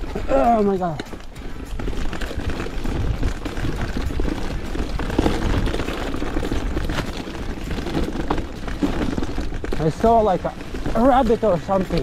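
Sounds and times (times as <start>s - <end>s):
mountain bike rattling over rocks: 0.0s - 12.0s.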